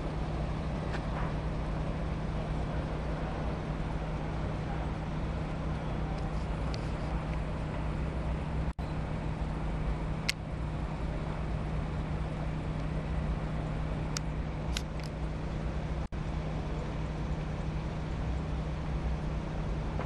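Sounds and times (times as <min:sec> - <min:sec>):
large fire roaring: 0:00.0 - 0:20.0
low hum: 0:00.0 - 0:20.0.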